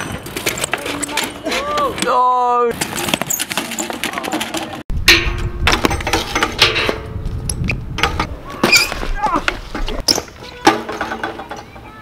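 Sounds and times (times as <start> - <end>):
bike clicks and rattles: 0.0 - 12.0
bike tyres rolling on concrete: 0.0 - 12.0.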